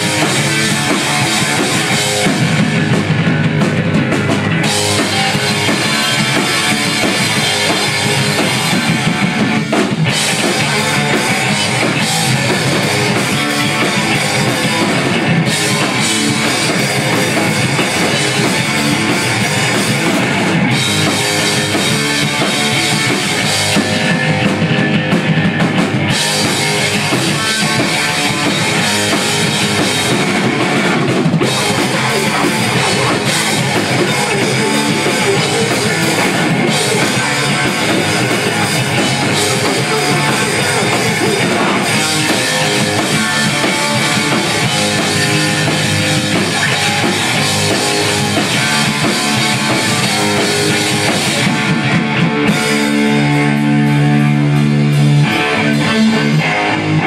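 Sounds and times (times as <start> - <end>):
bass guitar: 0.0 - 57.0
distorted electric guitars: 0.0 - 57.0
pounding drum kit: 0.0 - 57.0.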